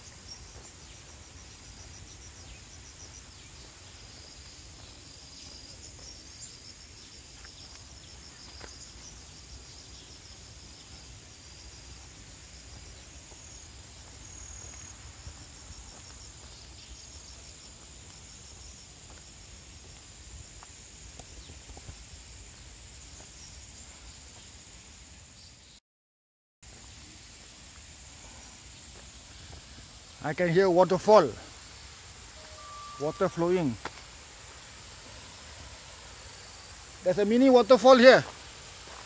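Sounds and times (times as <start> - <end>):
insect pulsed trill: 0.0 - 25.8, 27.0 - 39.0
insects chorus: 0.0 - 25.8, 26.7 - 39.0.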